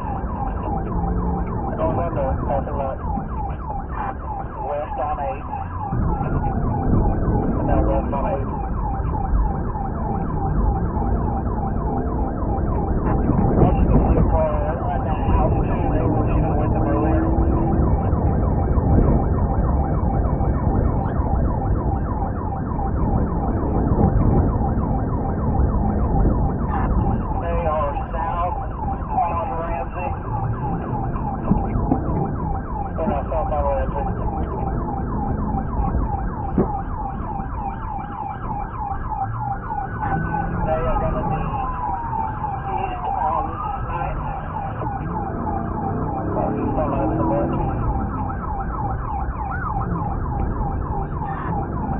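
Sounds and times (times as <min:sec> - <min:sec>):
engine and road rumble: 0:00.0 - 0:51.9
police siren yelp: 0:00.0 - 0:51.9
siren wail rising and falling: 0:00.0 - 0:51.9.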